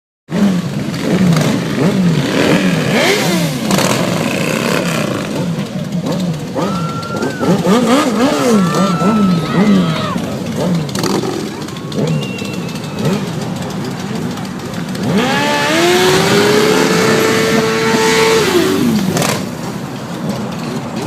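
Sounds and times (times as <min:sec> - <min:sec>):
vehicle engine revving: 0:00.3 - 0:21.0.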